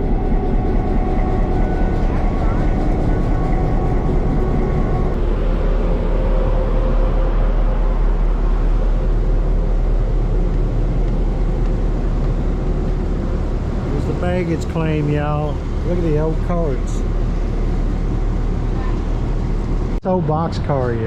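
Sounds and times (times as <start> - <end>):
diesel locomotive engine idling: 0.0 - 20.0.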